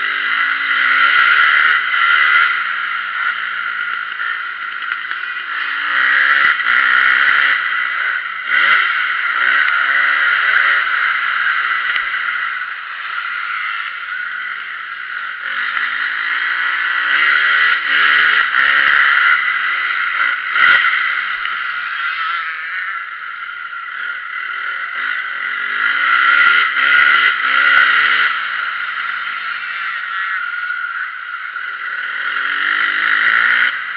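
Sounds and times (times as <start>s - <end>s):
motocross bike engines revving: 0.0s - 33.9s.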